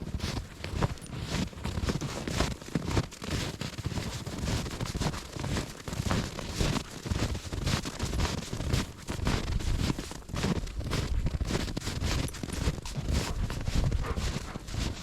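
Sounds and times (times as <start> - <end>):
footsteps crunching through snow: 0.0 - 15.0.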